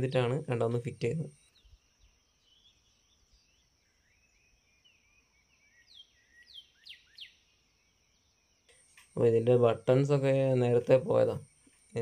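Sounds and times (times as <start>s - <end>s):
faint bird chirps: 0.0s - 12.0s
steady faint high tone: 0.0s - 12.0s.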